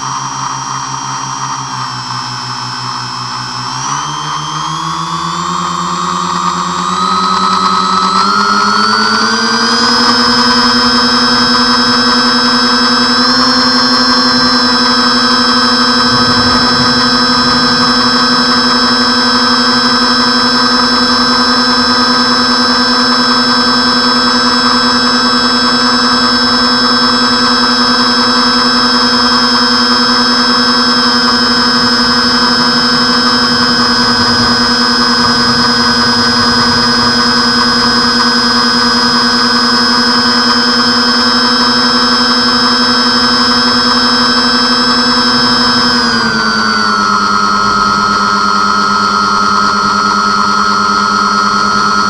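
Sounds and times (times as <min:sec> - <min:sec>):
model airplane motors whining: 0:00.0 - 0:52.0.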